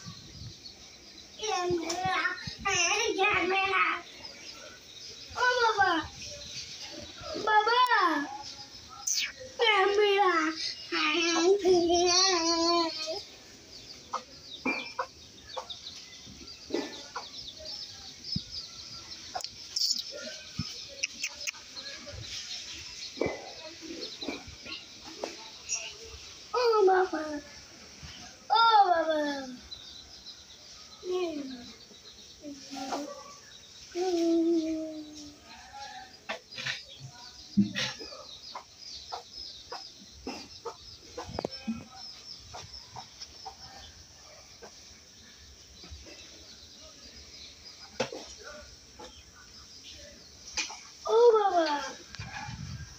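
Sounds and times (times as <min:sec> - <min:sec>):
faint high bird chirps: 0:00.0 - 0:52.9.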